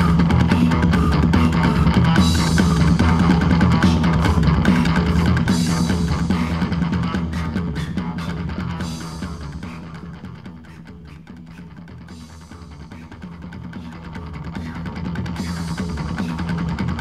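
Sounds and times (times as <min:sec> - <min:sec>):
fast rock music: 0:00.0 - 0:17.0.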